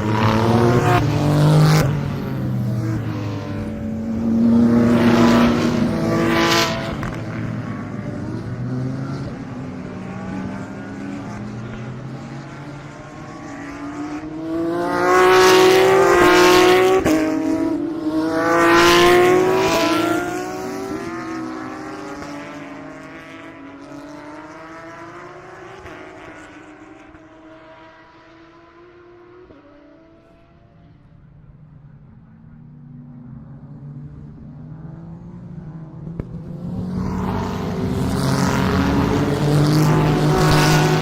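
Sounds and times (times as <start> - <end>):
race cars passing at speed: 0.0 - 41.0.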